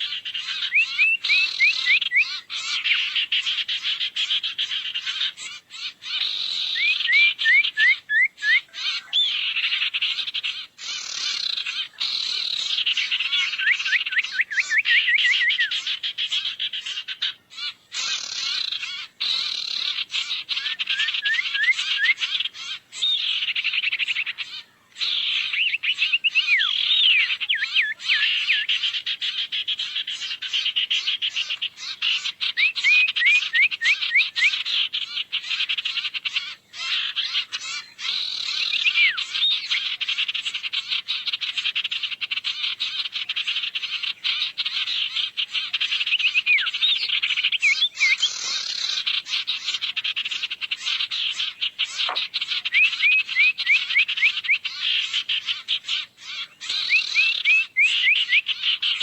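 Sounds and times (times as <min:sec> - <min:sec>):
chirping and clicking bird calls: 0:00.0 - 0:59.0.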